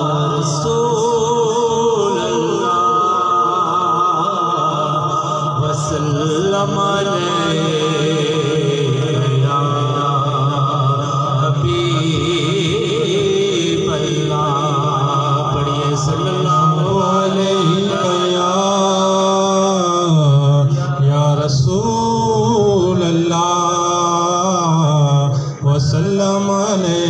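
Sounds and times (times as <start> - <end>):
men chanting a devotional hymn: 0.0 - 27.0.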